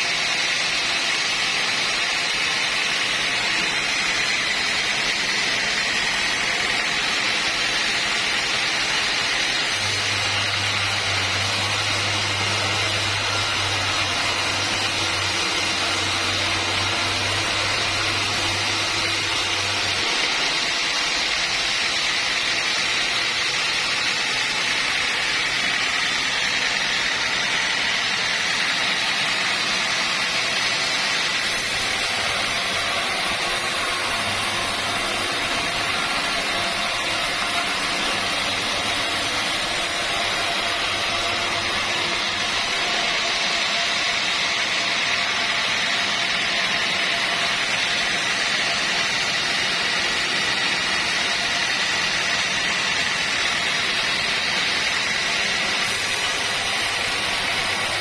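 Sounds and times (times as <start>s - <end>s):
sawmill machinery drone and whine: 0.0s - 58.0s.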